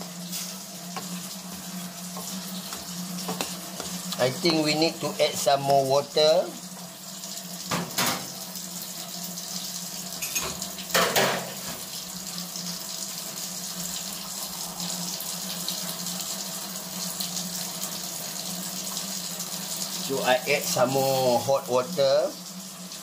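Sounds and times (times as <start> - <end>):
water pouring into a saucepan: 0.0 - 23.0.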